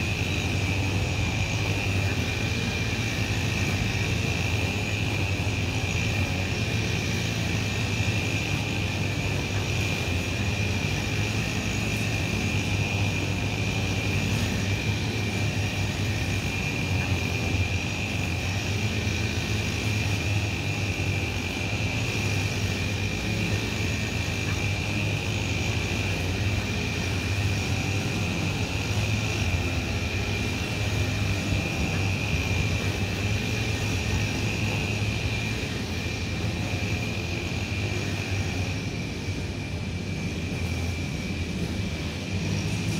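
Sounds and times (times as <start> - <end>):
high-pitched whine: 0.0 - 42.9
low mechanical hum: 0.0 - 42.9.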